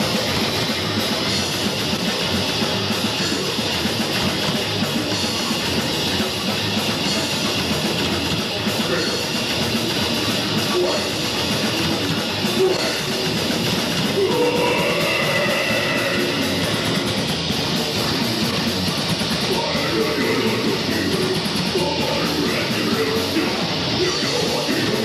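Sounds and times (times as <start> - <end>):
drum kit: 0.0 - 25.0
electric guitar: 0.0 - 25.0.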